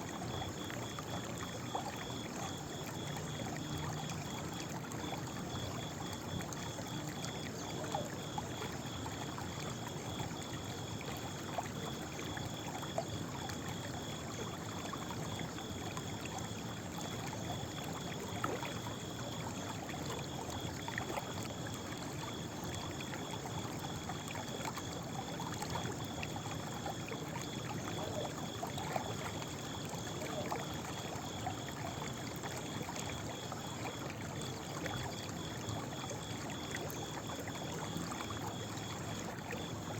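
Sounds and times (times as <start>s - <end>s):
water trickling with splashes: 0.0s - 39.9s.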